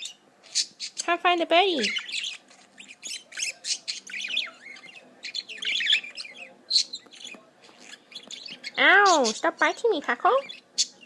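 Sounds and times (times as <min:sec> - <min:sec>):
budgie chirping and squawking: 0:00.0 - 0:11.0.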